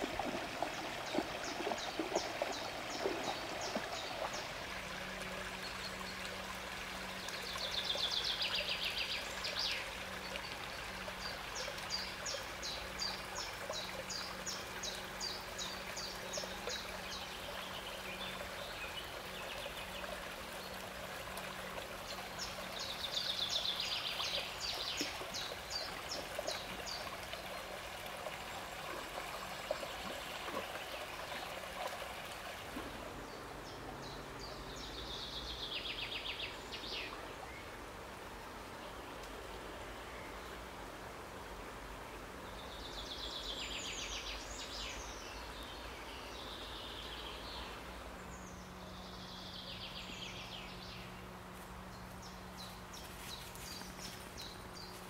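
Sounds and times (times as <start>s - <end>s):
songbird singing: 0.0s - 31.9s, 32.7s - 37.8s, 42.2s - 55.0s
brook running: 0.0s - 55.0s.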